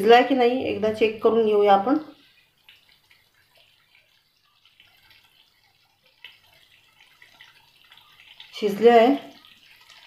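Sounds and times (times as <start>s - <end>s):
gravy bubbling in pan: 0.0s - 10.0s.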